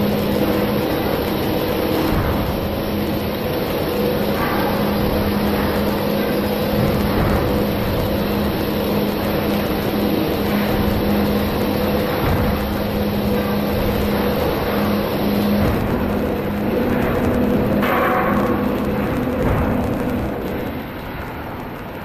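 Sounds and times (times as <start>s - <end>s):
drilling and milling machine running: 0.0s - 20.8s.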